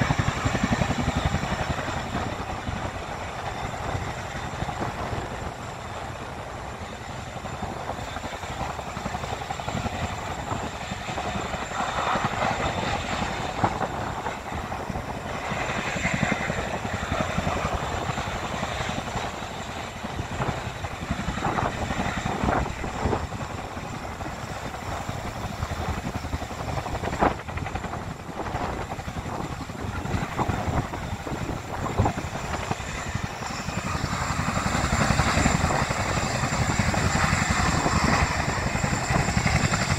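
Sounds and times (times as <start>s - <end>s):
helicopter rotor noise: 0.0s - 39.9s.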